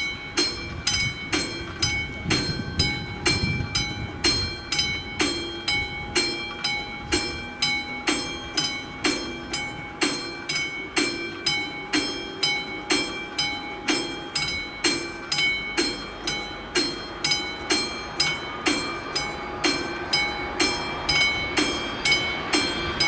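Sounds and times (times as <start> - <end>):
level crossing warning bell: 0.0 - 23.0
low train rumble: 0.0 - 23.0.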